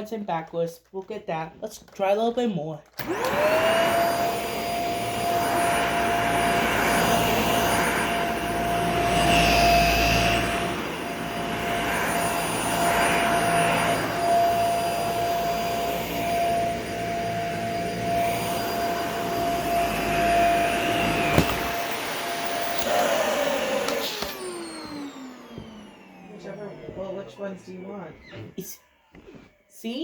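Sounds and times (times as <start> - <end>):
vacuum cleaner running on carpet: 3.0 - 28.6.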